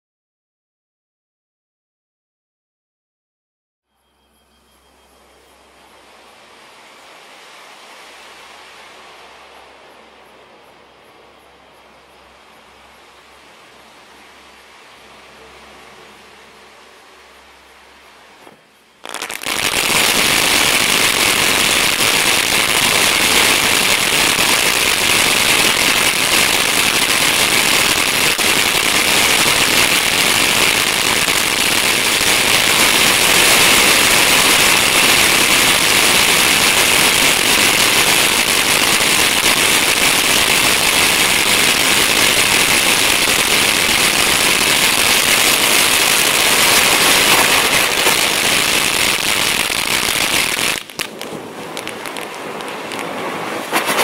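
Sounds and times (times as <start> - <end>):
firework fountain hissing: 3.9 - 54.0
firework crackling: 4.0 - 54.0.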